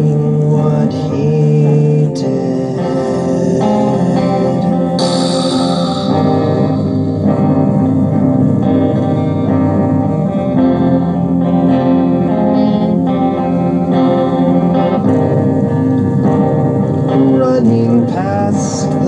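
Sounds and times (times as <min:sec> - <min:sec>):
guitar strumming chords: 0:00.0 - 0:19.0.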